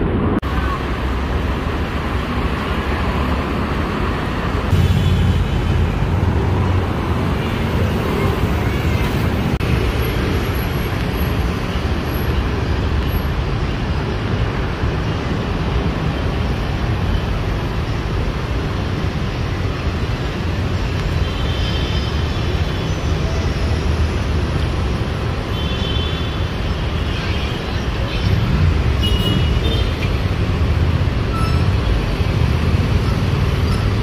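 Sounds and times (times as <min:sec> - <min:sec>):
city street traffic: 0:00.0 - 0:34.0.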